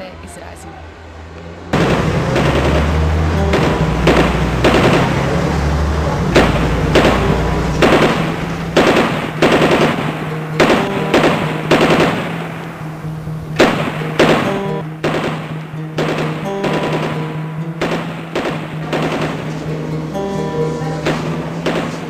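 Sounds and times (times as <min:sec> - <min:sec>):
steady low drone: 0:01.0 - 0:22.0
machine-gun fire bursts: 0:01.8 - 0:05.7, 0:06.3 - 0:12.8, 0:13.6 - 0:22.0.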